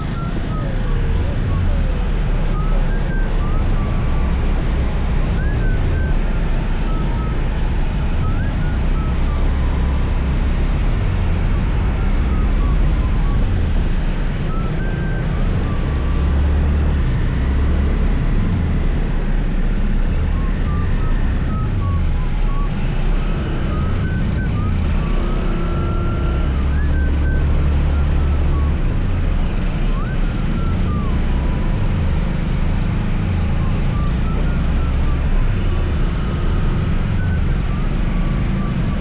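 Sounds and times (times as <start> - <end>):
scooter engine and road noise: 0.0 - 39.0.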